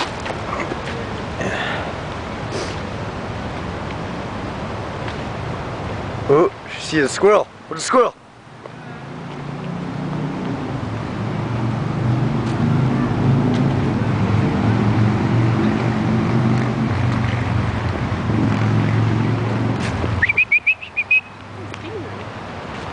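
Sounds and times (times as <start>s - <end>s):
road traffic engine rumble: 0.0s - 22.9s.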